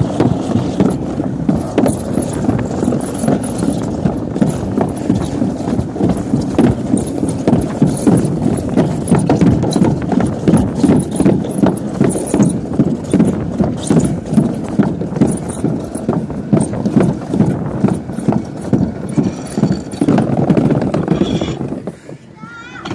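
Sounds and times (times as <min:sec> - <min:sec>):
sled rumbling down track: 0:00.0 - 0:22.9.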